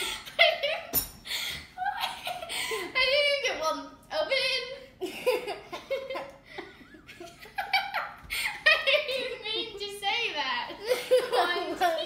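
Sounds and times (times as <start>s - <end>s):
girls laughing and giggling: 0.0s - 3.4s, 4.9s - 10.0s, 10.6s - 12.0s.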